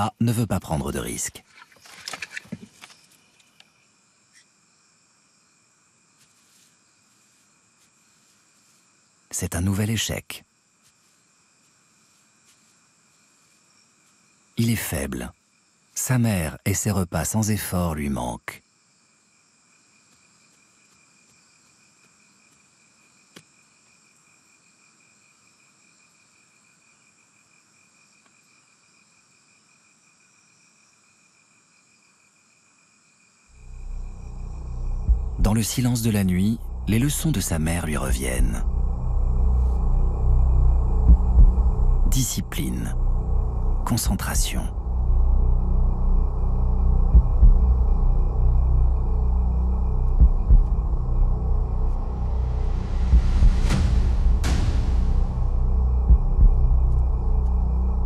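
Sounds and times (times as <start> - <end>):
night insects chirring: 0.0 - 58.0.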